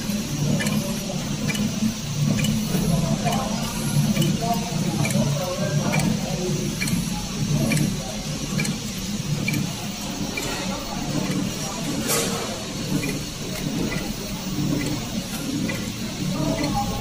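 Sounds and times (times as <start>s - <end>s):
machine clicking: 0.0s - 17.0s
wrapping machine hum: 0.0s - 17.0s.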